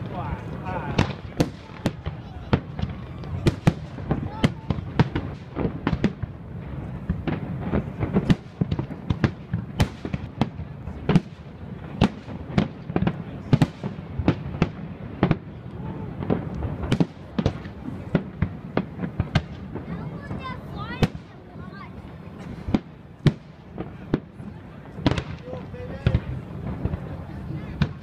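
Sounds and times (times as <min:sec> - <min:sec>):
firework bursts: 0:00.0 - 0:28.0.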